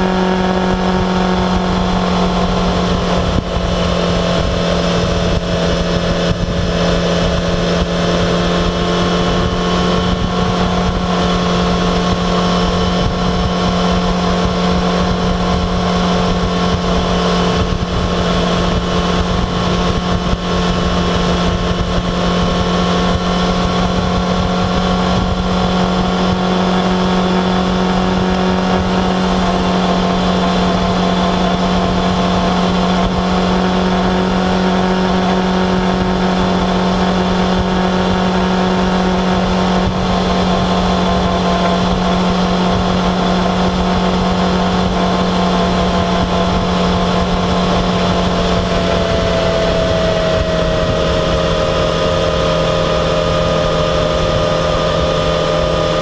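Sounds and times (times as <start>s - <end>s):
motorcycle engine cruising: 0.0s - 56.0s
wind noise on microphone: 0.0s - 56.0s.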